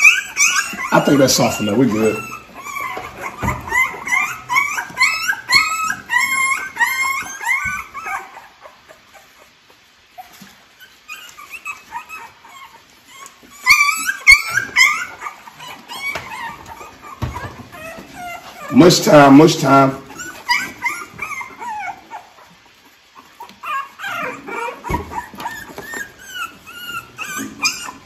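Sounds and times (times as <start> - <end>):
puppies crying: 0.0 - 28.0.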